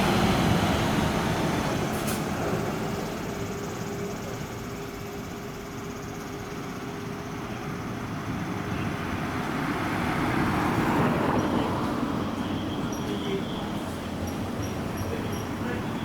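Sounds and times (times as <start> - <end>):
bus passing: 0.0 - 16.0.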